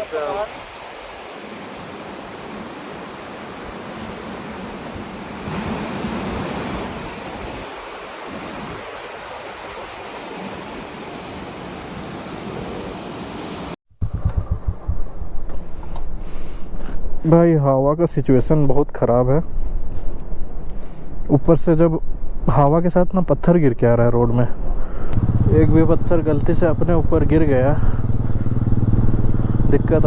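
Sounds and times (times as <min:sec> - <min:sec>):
low wind buffeting: 0:00.0 - 0:18.6, 0:19.4 - 0:30.0.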